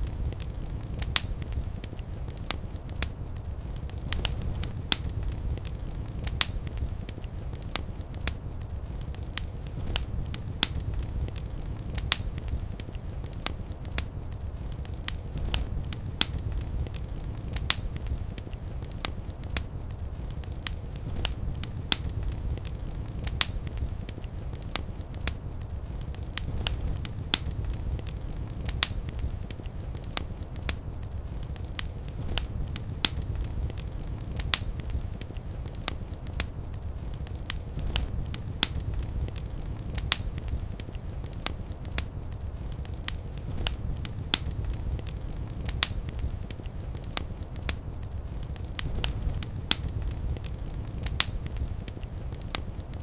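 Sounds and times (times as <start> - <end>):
fire crackling and popping: 0.0 - 53.0
fire rumbling: 0.0 - 53.0.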